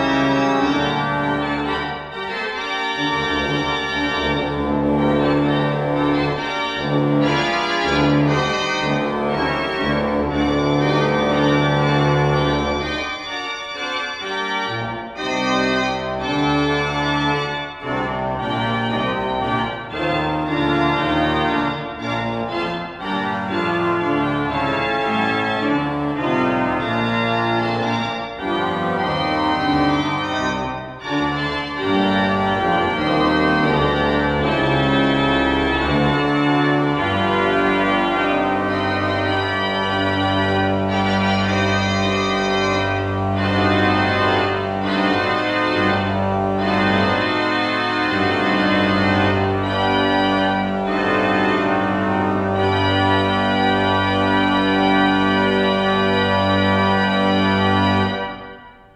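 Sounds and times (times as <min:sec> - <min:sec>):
church organ chords: 0:00.0 - 0:58.9.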